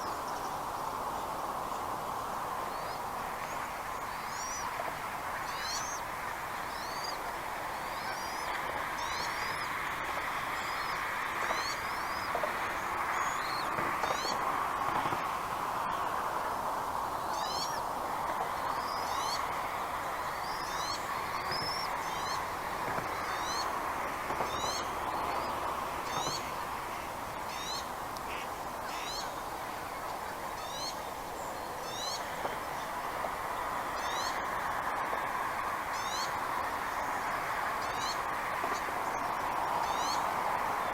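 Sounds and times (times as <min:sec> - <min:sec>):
rushing background noise: 0:00.0 - 0:40.9.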